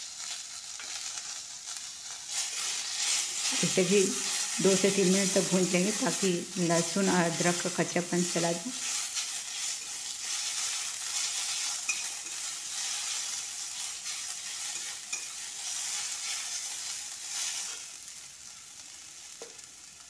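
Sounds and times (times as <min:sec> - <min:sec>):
onions sizzling in hot oil: 0:00.0 - 0:20.0
metal spatula scraping a pan: 0:00.2 - 0:18.0.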